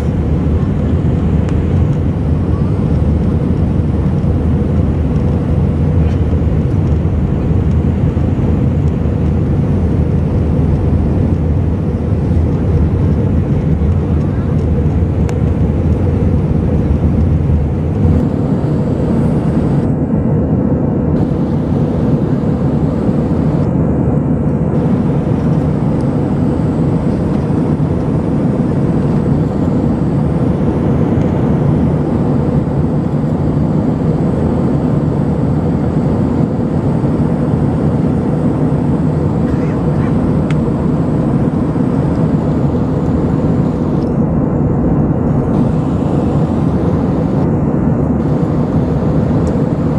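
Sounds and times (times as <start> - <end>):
jet engine and airflow noise: 0.0 - 49.9.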